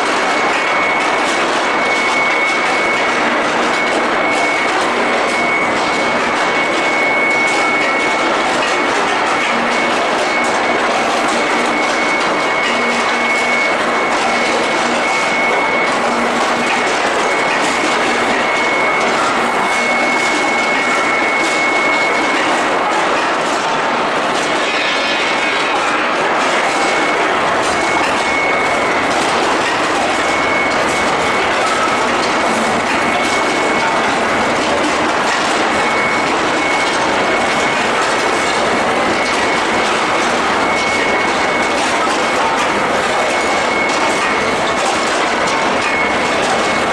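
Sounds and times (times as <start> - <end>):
machinery roar with high whine: 0.0 - 46.9.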